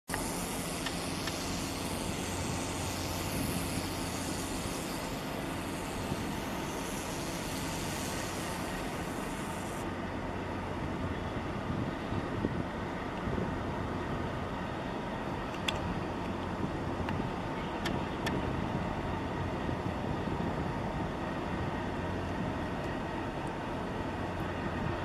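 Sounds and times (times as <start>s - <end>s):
low engine rumble: 0.0s - 25.0s
outdoor background noise: 0.0s - 25.0s.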